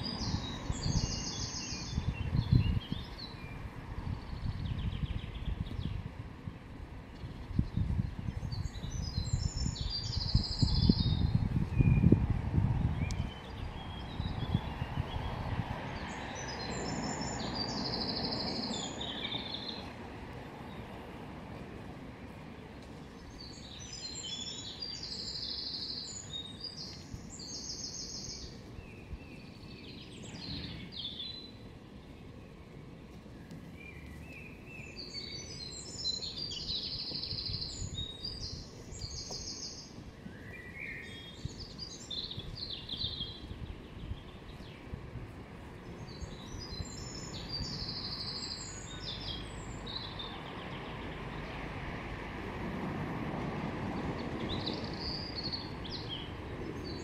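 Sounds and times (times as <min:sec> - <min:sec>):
songbird singing trills: 0:00.0 - 0:06.1, 0:07.2 - 0:12.2, 0:12.8 - 0:20.0, 0:22.9 - 0:45.0, 0:45.8 - 0:51.6, 0:54.2 - 0:57.0.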